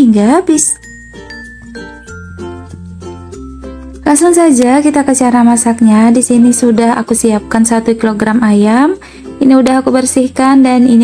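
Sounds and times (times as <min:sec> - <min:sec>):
light melody: 0:00.0 - 0:11.0.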